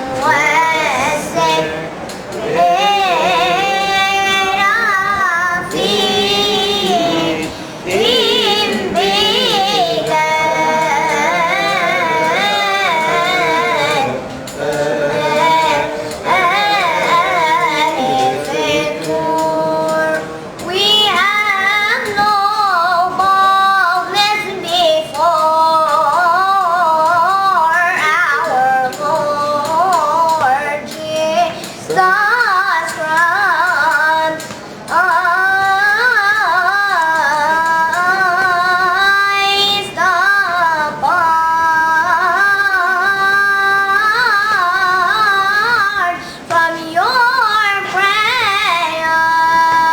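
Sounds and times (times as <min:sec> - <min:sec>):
child singing solo: 0:02.6 - 0:14.0, 0:15.2 - 0:49.9.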